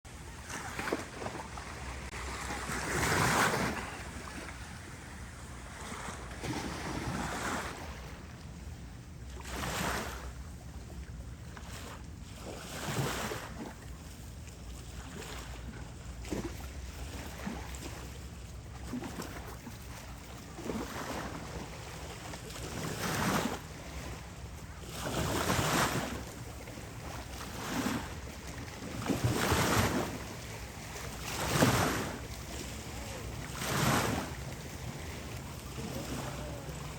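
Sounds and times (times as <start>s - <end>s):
small waves washing onto beach: 0.1s - 8.5s, 9.2s - 36.9s.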